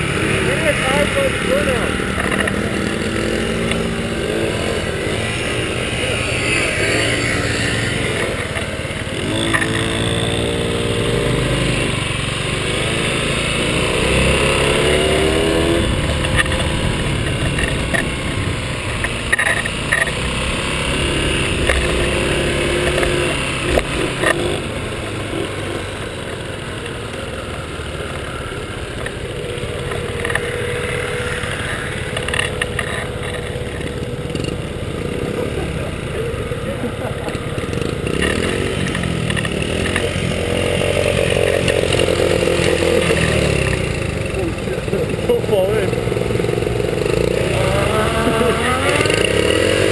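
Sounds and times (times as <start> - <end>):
scooter engines buzzing: 0.0 - 49.9.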